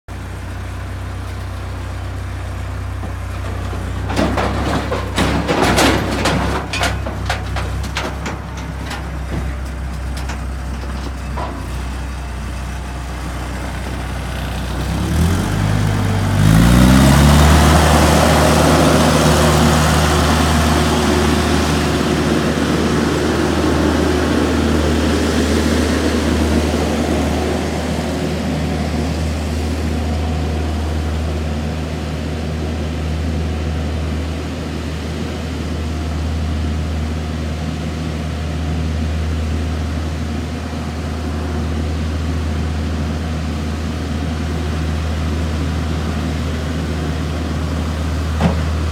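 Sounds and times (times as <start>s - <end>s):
diesel engine idling and revving: 0.1s - 48.9s.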